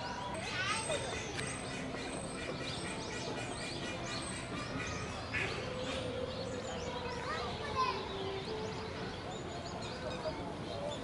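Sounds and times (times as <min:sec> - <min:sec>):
birds chirping and calling: 0:00.0 - 0:11.0
outdoor background noise: 0:00.0 - 0:11.0.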